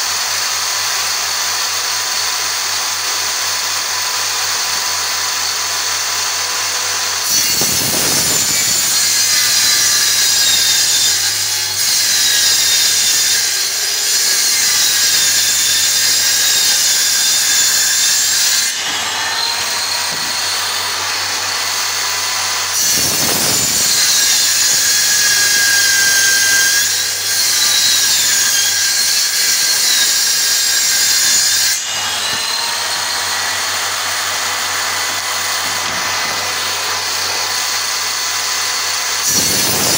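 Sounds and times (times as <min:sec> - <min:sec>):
saw cutting particleboard: 0:00.0 - 0:39.9
table saw whining: 0:00.0 - 0:39.9.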